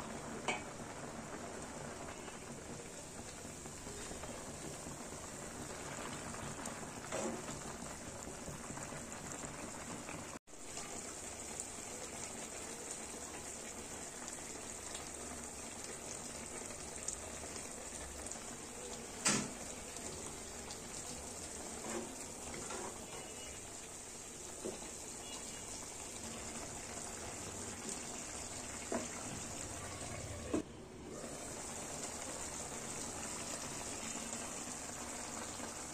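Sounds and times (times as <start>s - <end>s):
curry bubbling in a pan: 0.0s - 35.9s.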